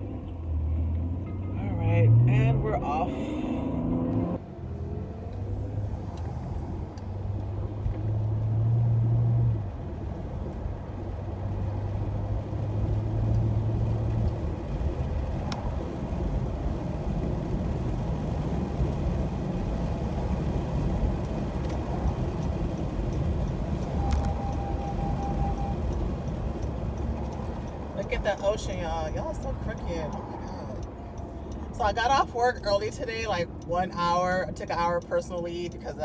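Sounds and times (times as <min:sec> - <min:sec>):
car engine hum: 0:00.0 - 0:36.0
road rumble: 0:00.0 - 0:36.0.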